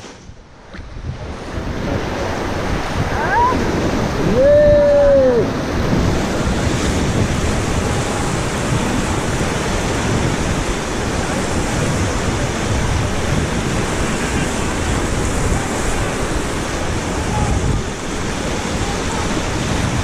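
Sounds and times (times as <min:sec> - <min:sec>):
wind on microphone: 0:00.0 - 0:20.0
whitewater rapids rushing: 0:01.2 - 0:20.0.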